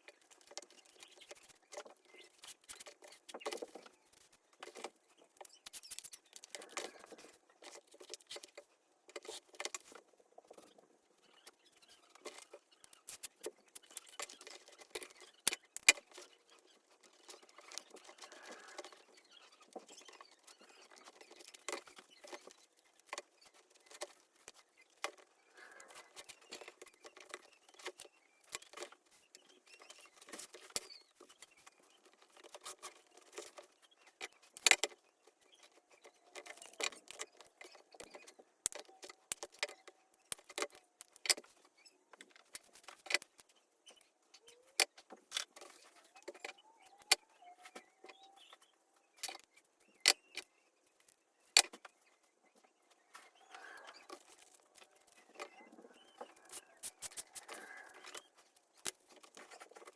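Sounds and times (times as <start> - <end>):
rustling handling noise: 0.0 - 59.9.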